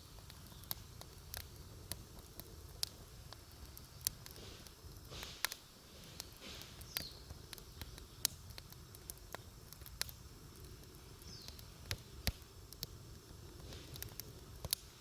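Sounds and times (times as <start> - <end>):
campfire crackling: 0.0 - 15.0
fire hissing: 0.0 - 15.0
fire rumbling: 0.0 - 15.0.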